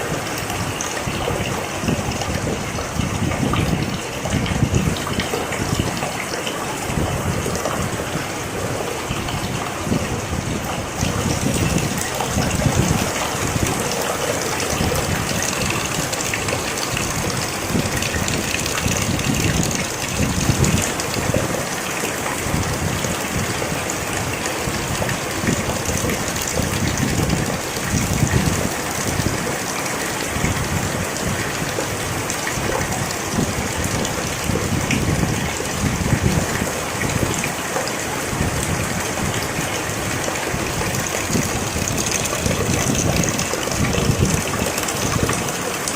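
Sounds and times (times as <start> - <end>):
rain hissing: 0.0 - 45.9.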